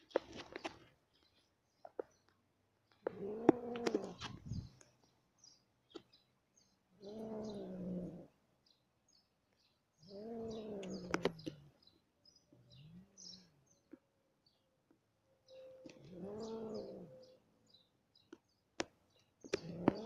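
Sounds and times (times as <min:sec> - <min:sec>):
bird chirps: 0:02.9 - 0:14.7, 0:15.3 - 0:20.0.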